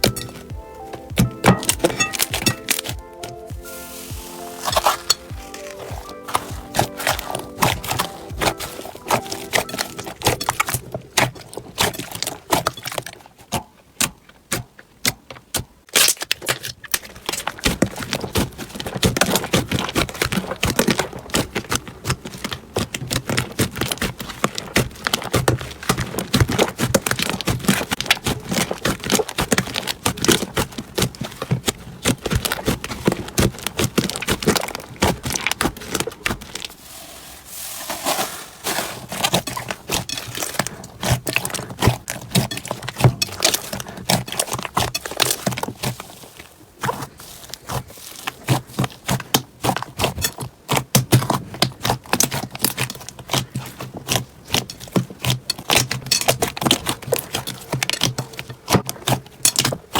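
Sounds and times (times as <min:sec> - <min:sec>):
slime crackling and clicking: 0:00.0 - 0:36.7, 0:39.0 - 0:59.9.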